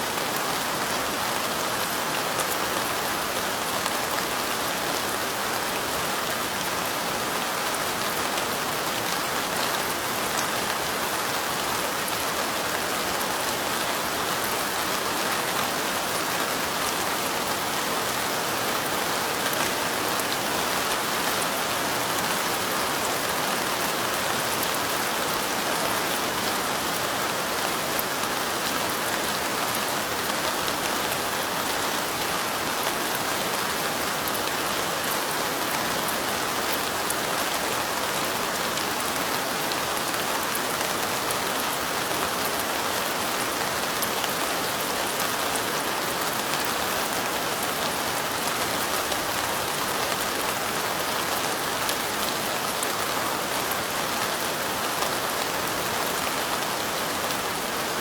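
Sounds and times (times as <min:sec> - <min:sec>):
light rain: 0:00.0 - 0:58.0.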